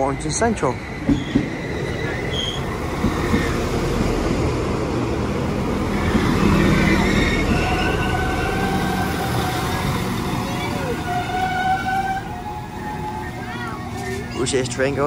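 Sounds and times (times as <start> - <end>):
wheels or brakes squealing: 0.0 - 3.6, 5.9 - 14.5
train engine and wheels rumbling: 0.0 - 15.0.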